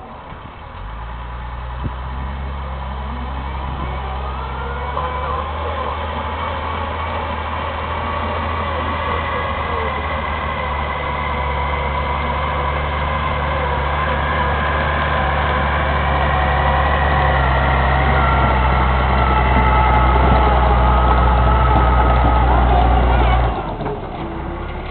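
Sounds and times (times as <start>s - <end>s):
tracked vehicle engine running: 0.0s - 24.9s.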